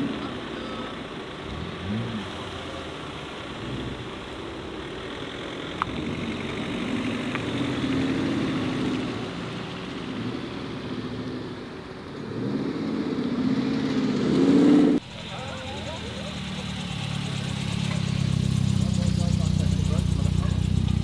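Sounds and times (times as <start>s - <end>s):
car engines driving past: 0.0s - 21.0s.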